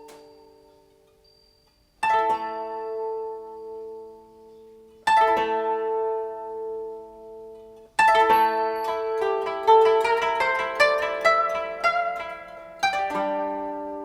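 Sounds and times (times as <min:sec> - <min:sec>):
koto plucked chords: 0:00.0 - 0:01.3, 0:02.0 - 0:14.0.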